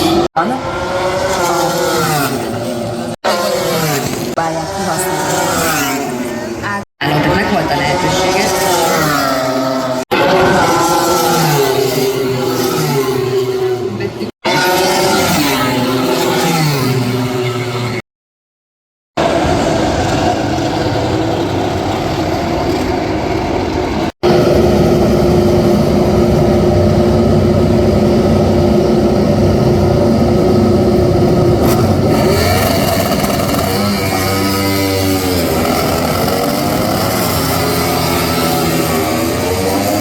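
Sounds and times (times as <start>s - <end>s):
racing motorcycle engines: 0.0s - 18.0s, 19.2s - 40.0s.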